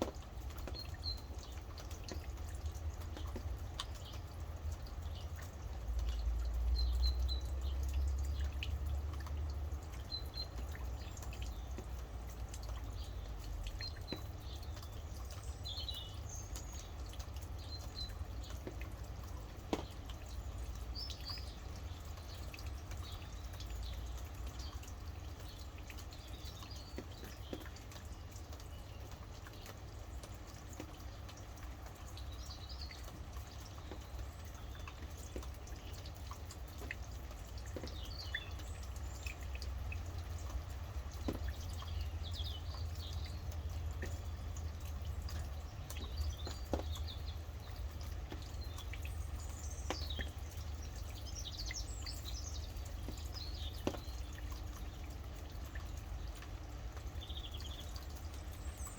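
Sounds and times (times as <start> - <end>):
rain dripping: 0.0 - 58.9
small birds chirping: 0.0 - 58.9.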